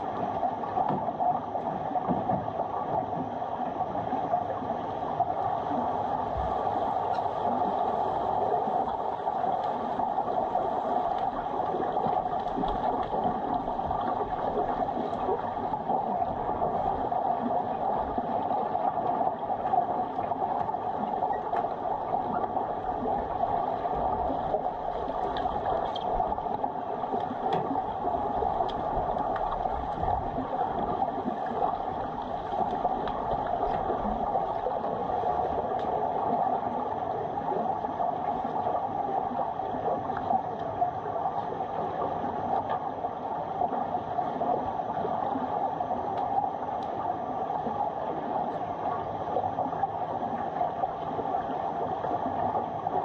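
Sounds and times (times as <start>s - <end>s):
muffled underwater hiss: 0.0s - 53.0s.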